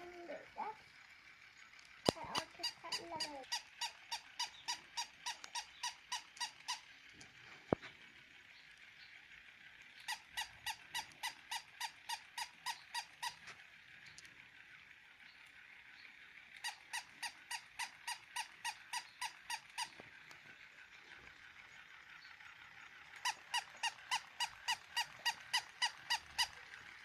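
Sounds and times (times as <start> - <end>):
rapid squeaks: 0.0 - 27.0.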